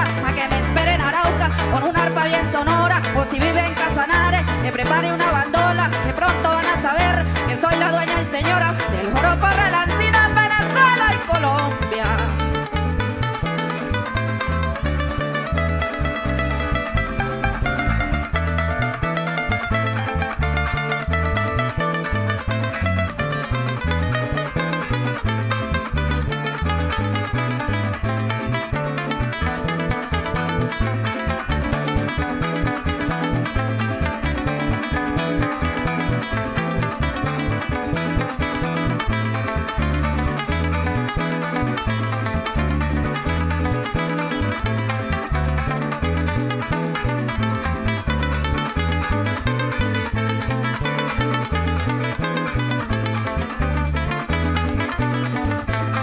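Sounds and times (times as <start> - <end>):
electric bass line: 0.0 - 56.0
harp: 0.0 - 56.0
maracas shaking: 0.0 - 56.0
plucked strings: 0.0 - 56.0
strummed cuatro: 0.0 - 56.0.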